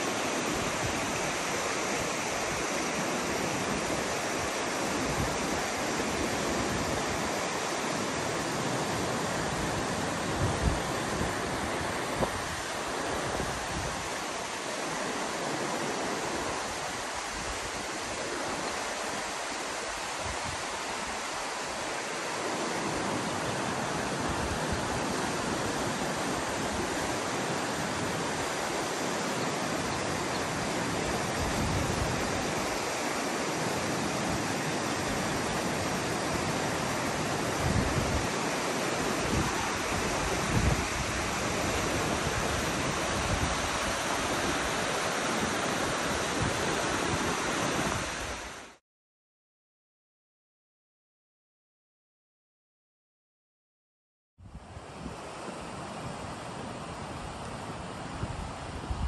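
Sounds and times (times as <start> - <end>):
creek rushing over boulders: 0.0 - 48.8.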